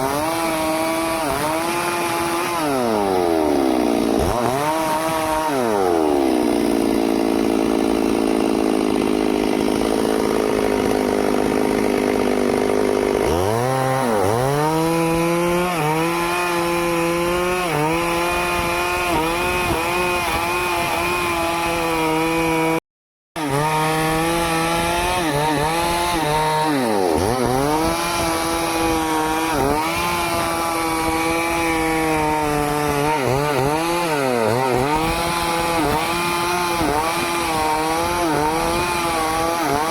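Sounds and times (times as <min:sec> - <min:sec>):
chainsaw revving and cutting: 0:00.0 - 0:22.8, 0:23.4 - 0:39.9.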